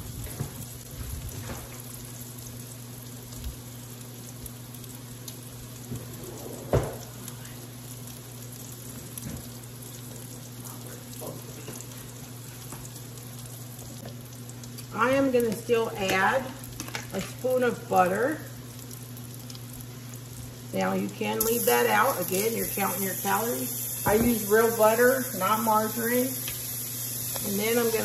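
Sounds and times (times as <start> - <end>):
bacon and onions sizzling: 0.0 - 28.0.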